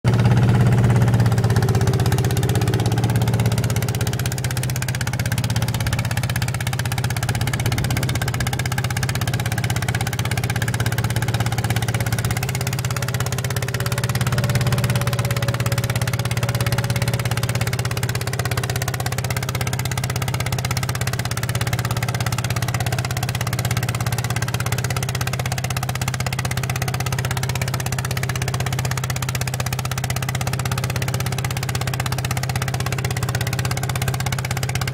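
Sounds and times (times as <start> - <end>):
tractor engine running under load: 0.1 - 34.9.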